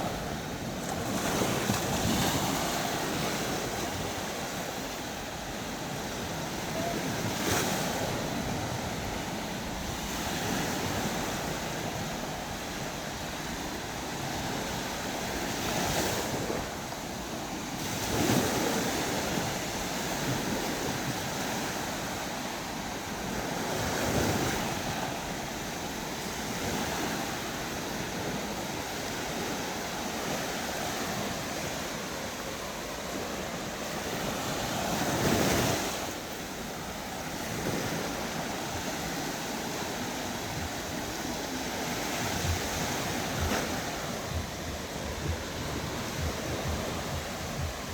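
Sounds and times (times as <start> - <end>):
sea waves breaking on shore: 0.0 - 47.9
wind on microphone: 0.0 - 47.9.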